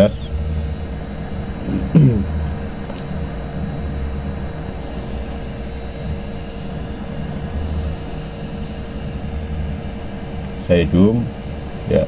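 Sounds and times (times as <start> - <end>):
constant hum: 0.0 - 12.0
hot air blower hissing: 0.0 - 12.0.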